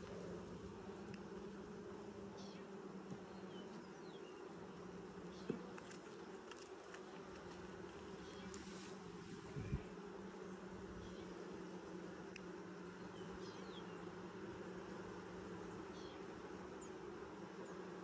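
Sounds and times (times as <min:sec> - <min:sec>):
honey bees humming: 0:00.0 - 0:18.0.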